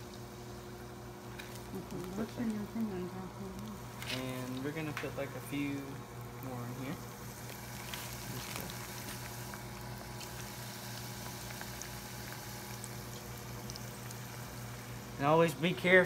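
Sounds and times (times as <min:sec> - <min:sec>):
fries sizzling in deep fryer: 0:00.0 - 0:16.0
low steady hum: 0:00.0 - 0:16.0.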